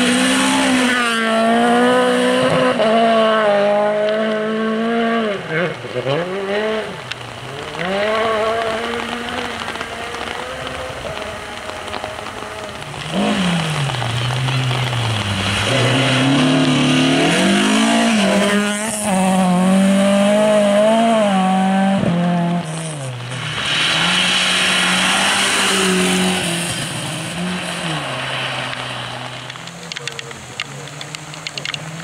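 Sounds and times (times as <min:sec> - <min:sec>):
rally car engine at full throttle: 0:00.0 - 0:32.0
tyres hissing on wet gravel: 0:05.5 - 0:32.0.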